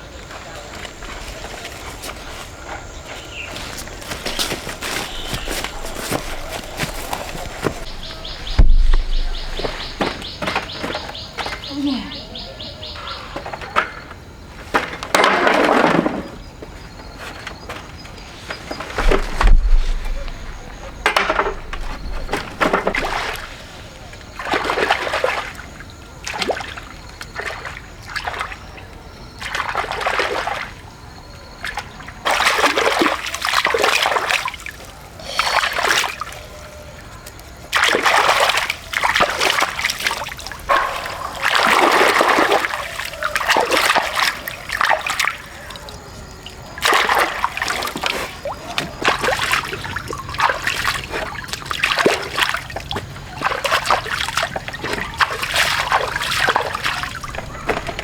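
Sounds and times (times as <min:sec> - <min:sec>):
water splashing: 0:00.3 - 0:11.7, 0:18.8 - 0:30.8, 0:31.6 - 0:58.0.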